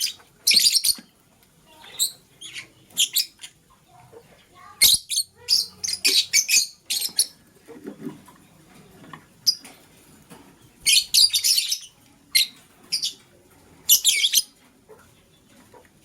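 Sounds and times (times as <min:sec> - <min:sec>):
lovebirds chirping: 0:00.0 - 0:07.6, 0:09.3 - 0:15.8.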